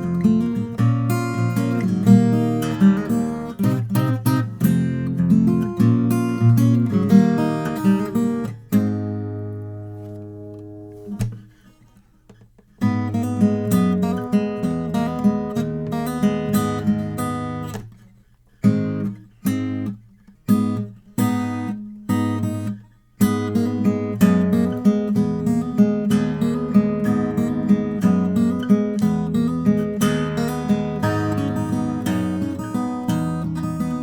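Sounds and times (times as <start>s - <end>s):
acoustic guitar chords and picking: 0.0s - 34.0s.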